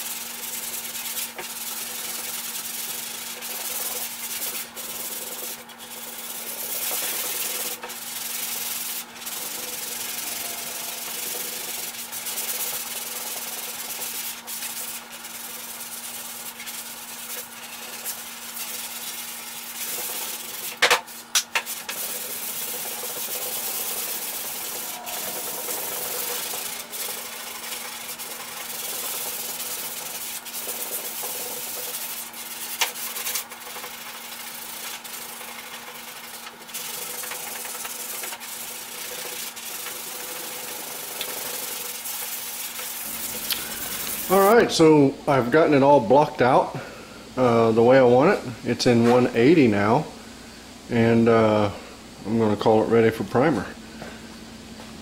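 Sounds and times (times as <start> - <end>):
sandpaper strokes on car hood: 0.0 - 44.6.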